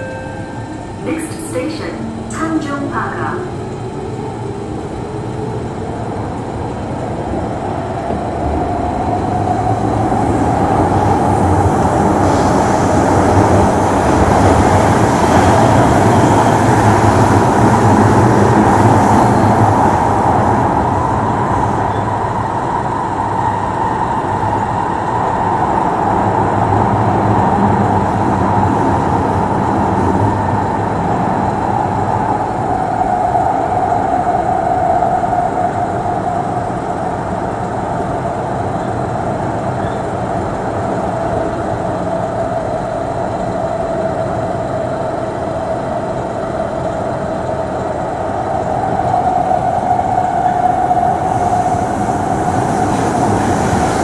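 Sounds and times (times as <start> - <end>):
train rumbling through tunnel: 0.0 - 54.0.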